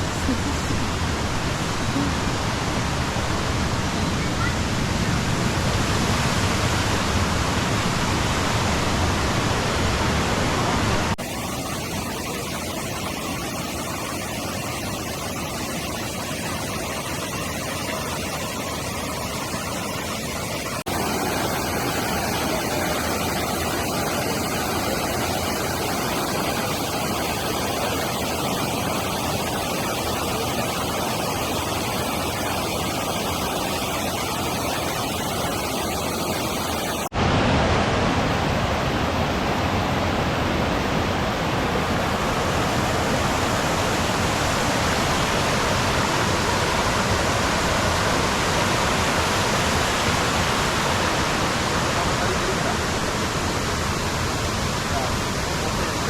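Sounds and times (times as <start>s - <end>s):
rushing river water: 0.0s - 56.0s.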